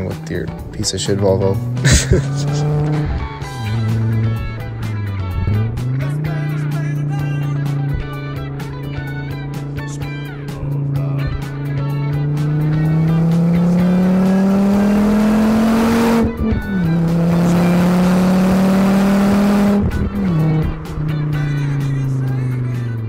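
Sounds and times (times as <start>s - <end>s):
car engine accelerating hard: 0.0s - 23.0s
music with a beat: 0.0s - 23.0s.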